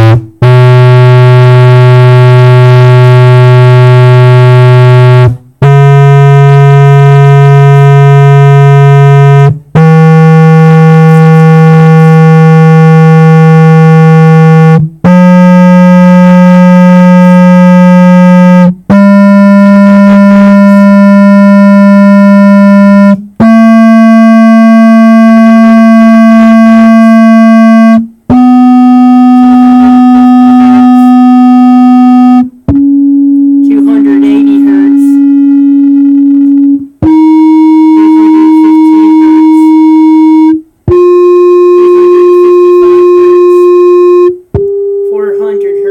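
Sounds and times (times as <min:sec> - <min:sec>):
buzzy test tones from stereo: 0:00.0 - 0:45.9.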